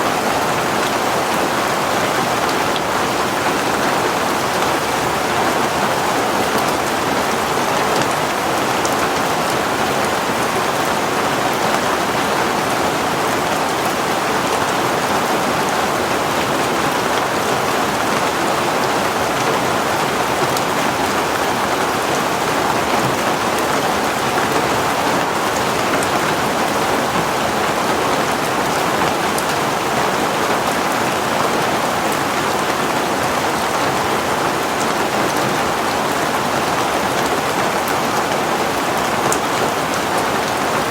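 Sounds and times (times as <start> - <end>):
heavy rain on a surface: 0.0 - 40.9.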